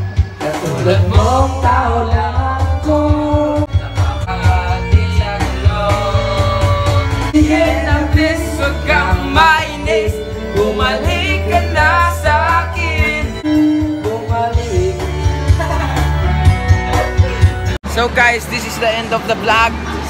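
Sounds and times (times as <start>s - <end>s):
backing track with bass beat: 0.0s - 19.7s
men singing into microphone: 0.4s - 17.4s.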